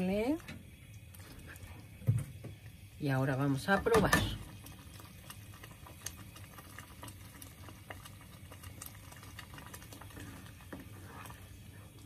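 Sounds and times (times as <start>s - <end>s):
salsa bubbling with small pops: 0.3s - 2.9s, 3.5s - 12.0s.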